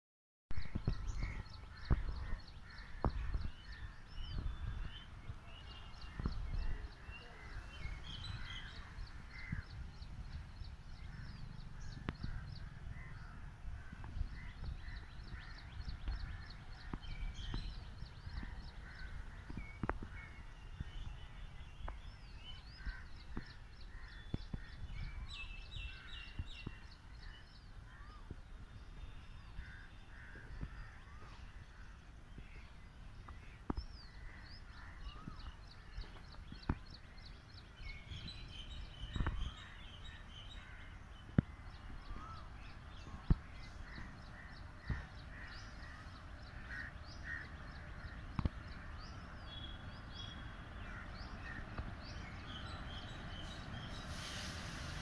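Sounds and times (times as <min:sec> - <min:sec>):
birds calling and chirping: 0:00.6 - 0:55.0.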